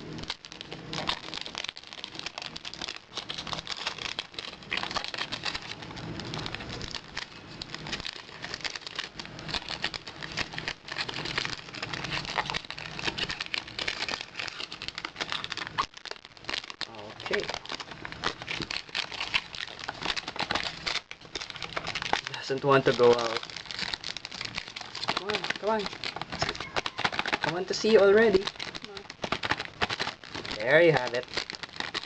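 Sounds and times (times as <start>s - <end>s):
cellophane crinkling: 0.0s - 32.0s.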